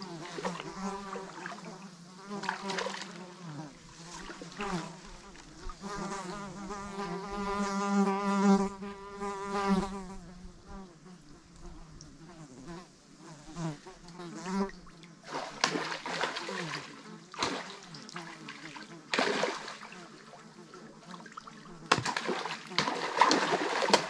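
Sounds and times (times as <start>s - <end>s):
flying insect buzzing: 0.0s - 24.0s.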